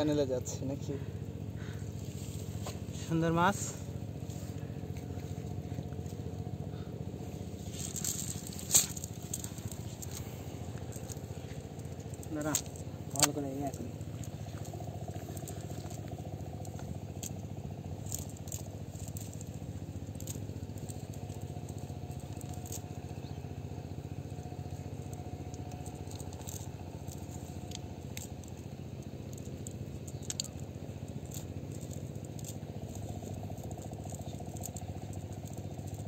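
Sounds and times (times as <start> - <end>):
small engine running: 0.0 - 36.0
net clicks and rustles: 1.6 - 36.0.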